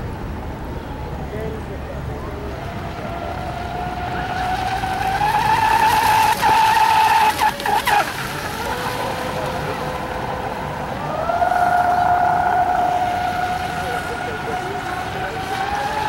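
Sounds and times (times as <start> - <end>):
model speedboat motor whining: 0.8 - 16.0.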